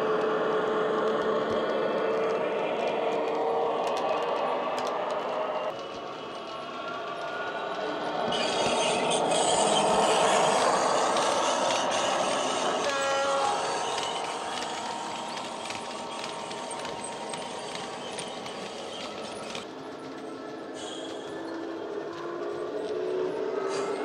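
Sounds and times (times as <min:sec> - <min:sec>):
model wagons rattling on track: 0:00.0 - 0:24.0.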